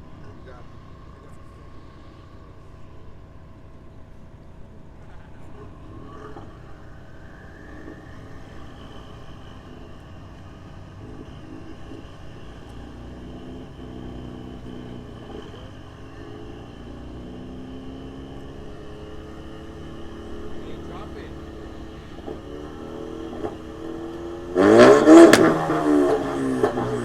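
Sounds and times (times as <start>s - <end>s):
car engines running: 0.0s - 27.0s.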